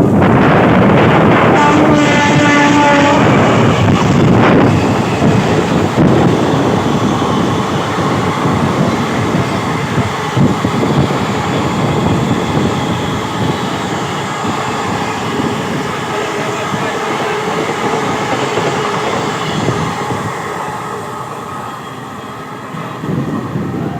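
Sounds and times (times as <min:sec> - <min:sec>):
train wheels rumbling and rattling: 0:00.0 - 0:23.9.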